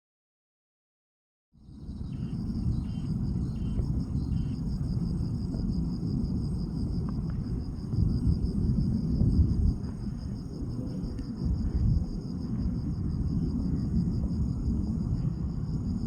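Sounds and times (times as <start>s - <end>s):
insects trilling: 1.7s - 16.0s
steady low rumble: 2.0s - 16.0s.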